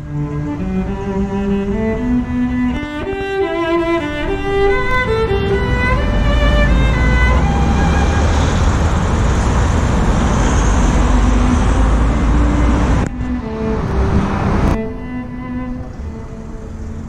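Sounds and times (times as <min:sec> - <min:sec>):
cello music: 0:00.0 - 0:17.0
road traffic rumble: 0:00.0 - 0:17.0.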